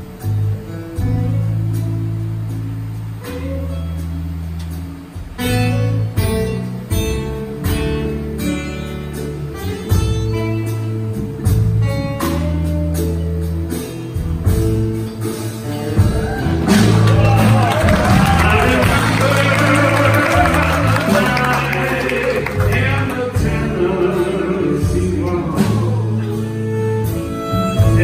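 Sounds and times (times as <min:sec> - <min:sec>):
acoustic guitar picking melody: 0:00.0 - 0:28.0
held bass notes: 0:00.0 - 0:28.0.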